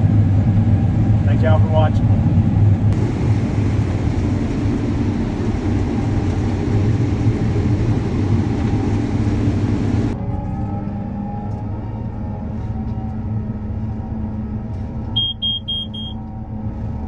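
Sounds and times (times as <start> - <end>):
combine harvester running: 0.0 - 10.6, 12.5 - 17.0.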